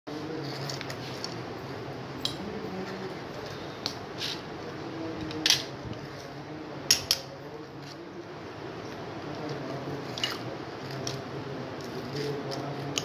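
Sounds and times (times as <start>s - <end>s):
steady low hum: 0.1s - 13.0s.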